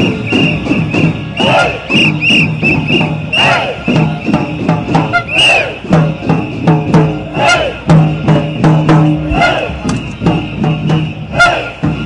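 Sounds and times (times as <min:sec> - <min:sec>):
drums beating fast rhythm: 0:00.0 - 0:12.0
protest crowd: 0:00.0 - 0:12.0.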